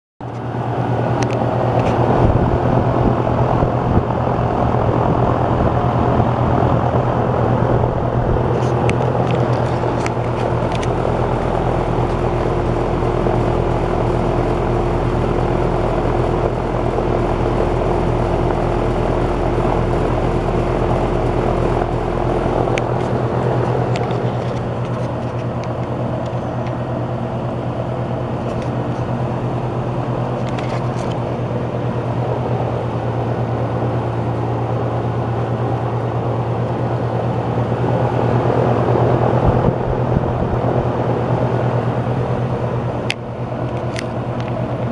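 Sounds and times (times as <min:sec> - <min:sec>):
air conditioning unit running: 0:00.2 - 0:44.9.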